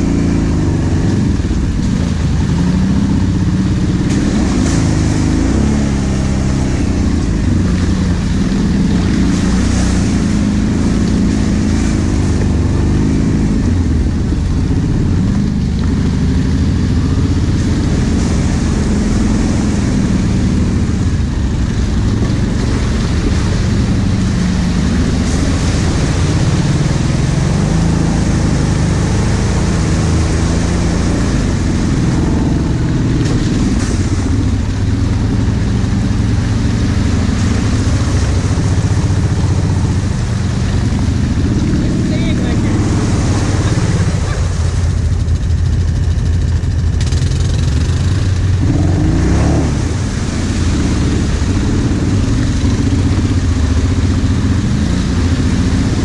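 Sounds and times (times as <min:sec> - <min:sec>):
quad bike engine running: 0:00.0 - 0:56.0
tyres splashing through mud: 0:00.0 - 0:56.0.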